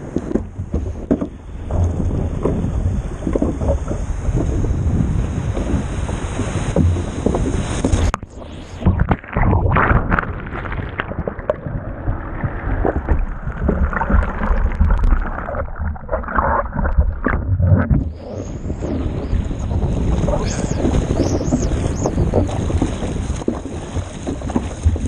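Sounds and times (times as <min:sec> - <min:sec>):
muffled underwater churning: 0:00.0 - 0:25.0
wind and surf on microphone: 0:00.0 - 0:25.0
deep rumble: 0:01.5 - 0:25.0.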